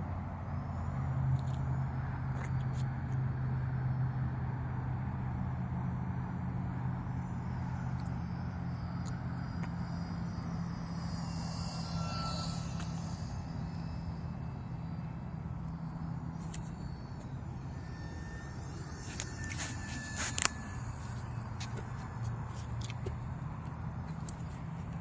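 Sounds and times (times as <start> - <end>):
model plane motor whine: 0.0 - 25.0
steady low hum: 0.0 - 25.0.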